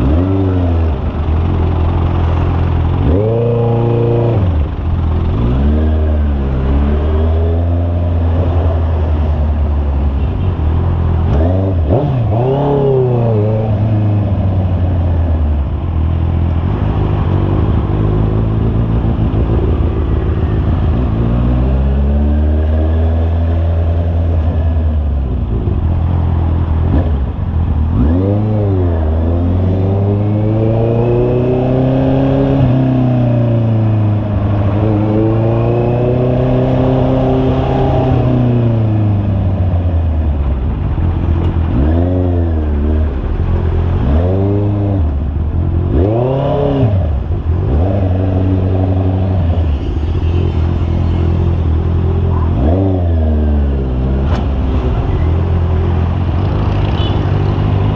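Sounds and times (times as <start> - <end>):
motorcycle engine revving: 0.0 - 10.0, 10.7 - 57.9.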